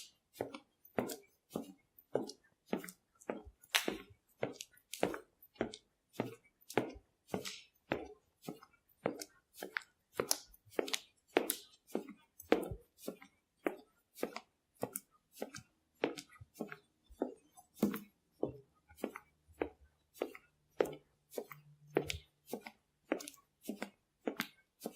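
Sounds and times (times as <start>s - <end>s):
footsteps tapping: 0.4s - 24.9s.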